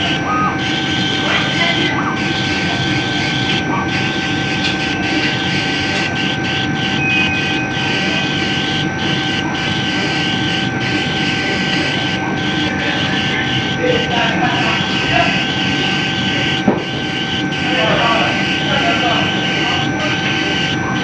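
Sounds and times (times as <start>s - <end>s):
laser cutting machine drone and whine: 0.0s - 21.0s.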